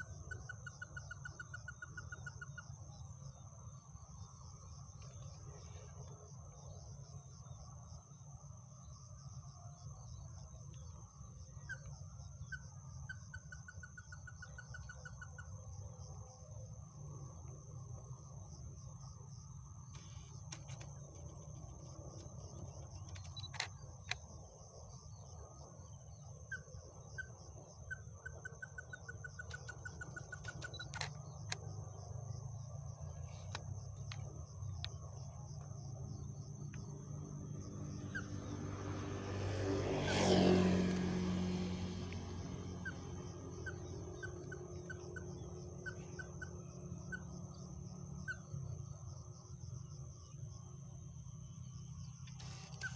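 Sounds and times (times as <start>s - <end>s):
bird chirps and trills: 0.0s - 7.8s, 9.9s - 16.0s, 20.0s - 52.9s
constant low rumble: 0.0s - 39.6s, 40.9s - 52.9s
high insect drone: 0.0s - 52.9s.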